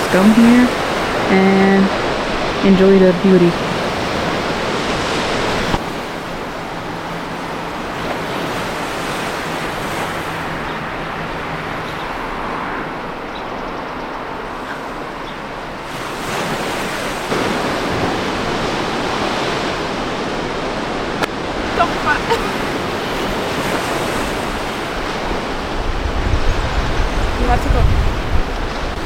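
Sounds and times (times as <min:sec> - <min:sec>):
surf washing against rocks: 0:00.0 - 0:29.0
wind on microphone: 0:00.0 - 0:29.0.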